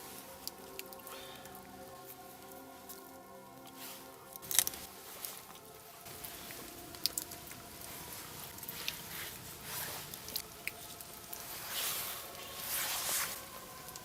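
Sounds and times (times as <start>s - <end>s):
faint background music: 0.0s - 14.0s
rustling: 0.0s - 14.0s.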